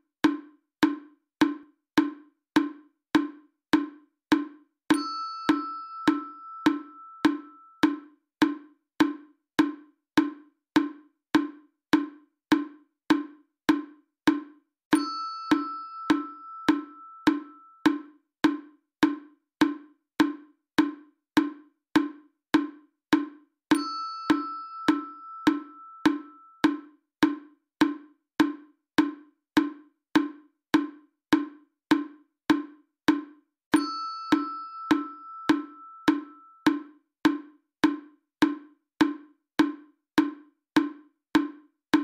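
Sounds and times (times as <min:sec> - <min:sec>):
woodblock-like percussion hits: 0:00.2 - 0:42.0.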